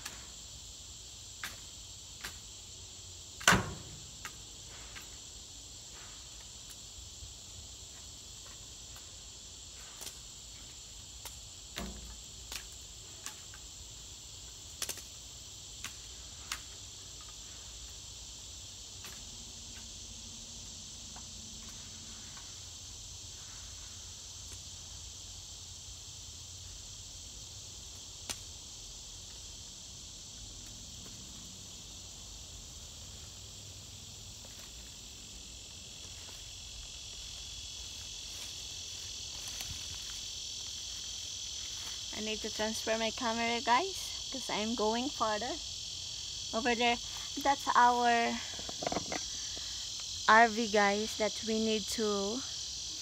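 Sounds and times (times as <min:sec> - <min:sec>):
insect chorus: 0:00.0 - 0:53.0.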